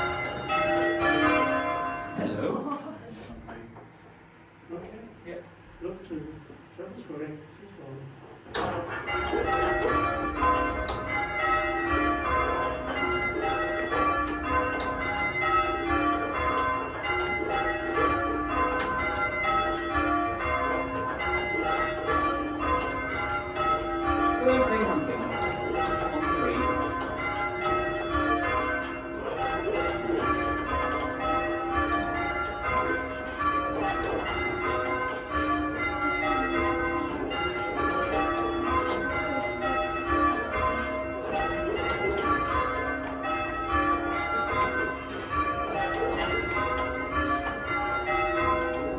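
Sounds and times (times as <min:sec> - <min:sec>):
church bells ringing: 0:00.0 - 0:02.8, 0:08.4 - 0:48.9.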